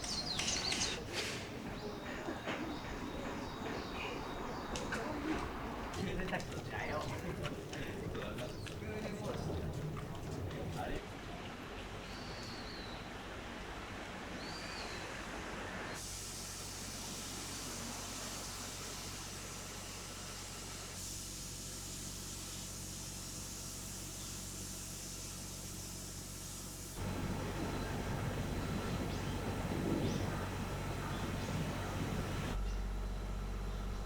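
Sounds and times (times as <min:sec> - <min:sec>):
ambient background hiss: 0:00.0 - 0:34.0.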